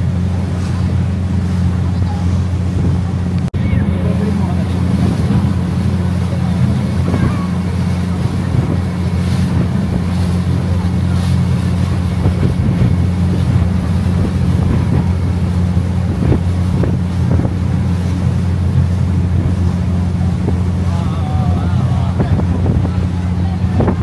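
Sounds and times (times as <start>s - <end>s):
boat engine humming: 0.0s - 24.0s
rushing water: 0.0s - 24.0s.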